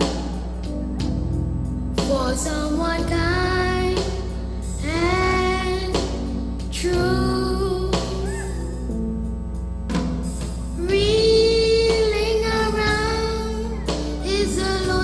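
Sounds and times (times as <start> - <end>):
band accompaniment with bass: 0.0 - 15.0.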